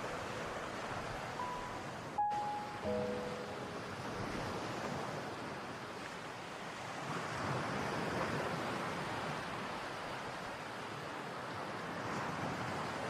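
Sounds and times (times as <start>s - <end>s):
sea noise: 0.0s - 13.0s.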